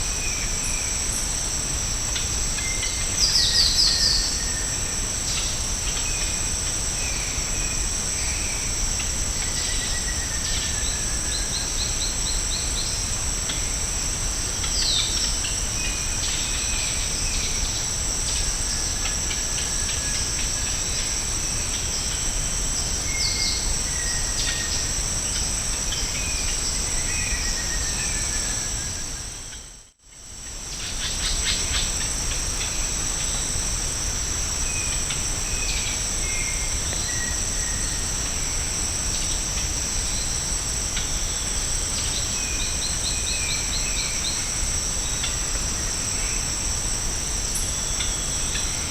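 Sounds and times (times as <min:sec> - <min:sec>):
high-pitched insect drone: 0:00.0 - 0:48.9.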